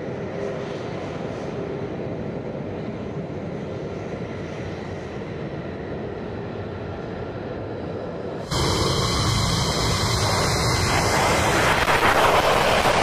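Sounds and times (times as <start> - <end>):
faint high engine whine: 0.0 - 13.0
jet engine rumble and hiss: 0.0 - 13.0.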